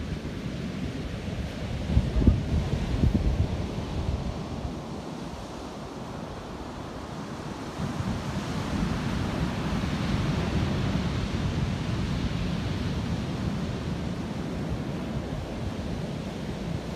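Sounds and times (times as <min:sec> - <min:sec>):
wind on microphone: 0:00.0 - 0:16.9.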